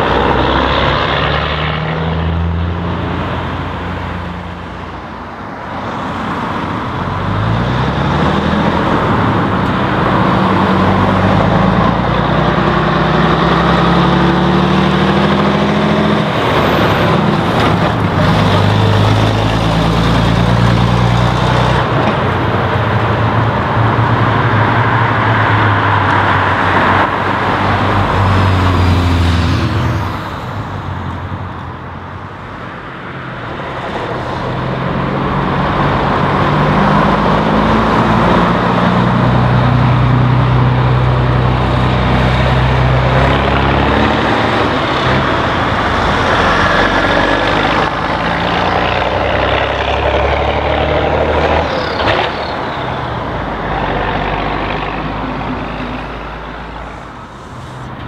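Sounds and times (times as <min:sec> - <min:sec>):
diesel trucks driving past: 0:00.0 - 0:58.0.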